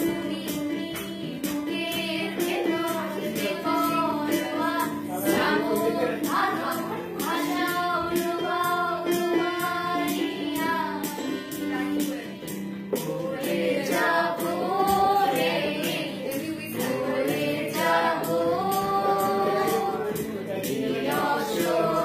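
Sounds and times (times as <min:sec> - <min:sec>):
steady beat: 0:00.0 - 0:22.0
women singing in unison: 0:00.0 - 0:22.0.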